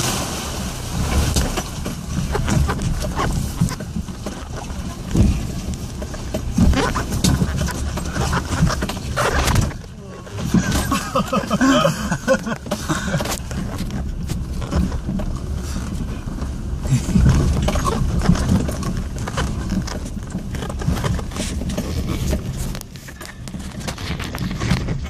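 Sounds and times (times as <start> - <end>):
vehicle engine and tyres rumbling: 0.0 - 25.0
vehicle knocks and rattles: 0.0 - 25.0.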